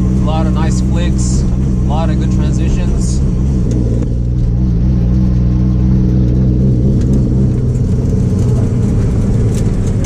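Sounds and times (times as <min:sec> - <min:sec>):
car engine droning: 0:00.0 - 0:10.0.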